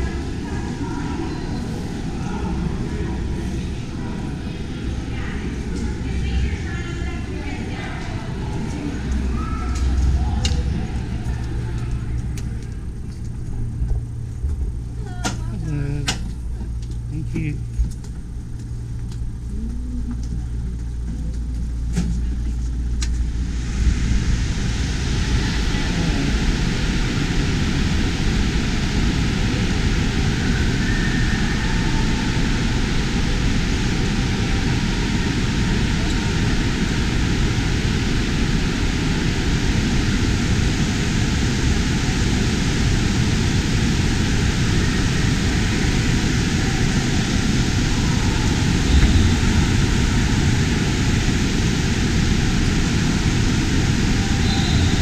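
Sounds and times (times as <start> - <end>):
indoor waterpark roar: 0.0 - 55.0.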